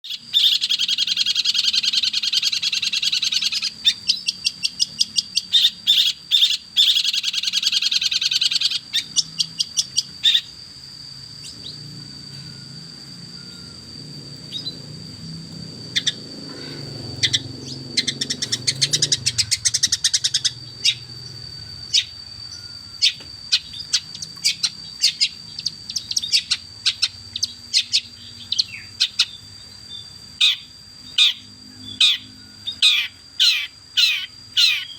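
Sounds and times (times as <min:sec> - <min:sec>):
shrike singing: 0:00.0 - 0:34.9
thin steady high tone: 0:00.0 - 0:34.9.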